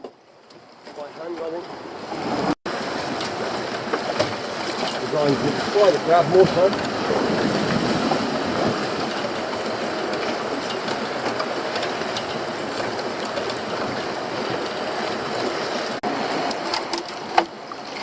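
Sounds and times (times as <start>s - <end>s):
sea water rushing around boat: 0.0s - 18.0s
wind: 0.0s - 18.0s.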